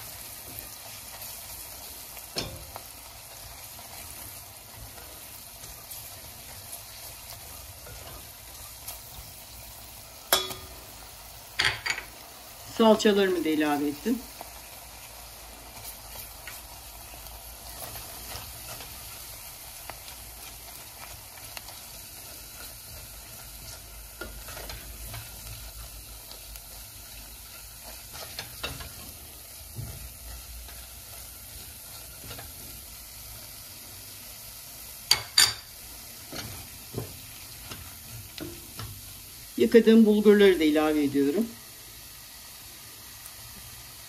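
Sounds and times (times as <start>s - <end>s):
paste sizzling in a pot: 0.0s - 44.0s.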